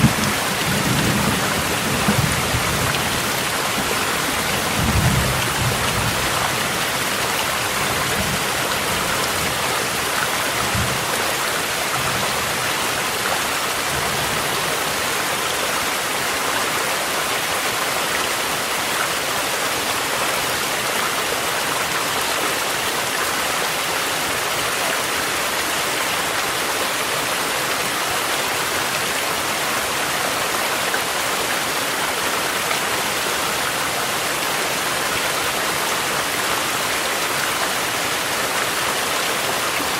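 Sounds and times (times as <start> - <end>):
mountain stream rushing: 0.0 - 39.9
steady rain: 0.0 - 39.9.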